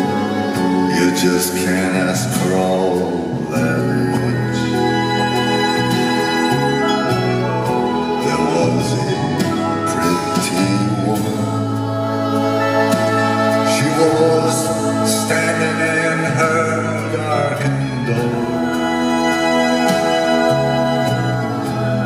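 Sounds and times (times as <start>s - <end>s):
slow band song with singing: 0.0s - 22.0s.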